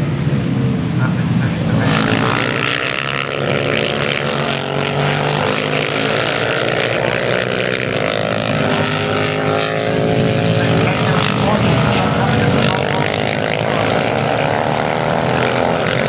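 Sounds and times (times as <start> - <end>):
race motorcycle engines revving: 0.0 - 16.0.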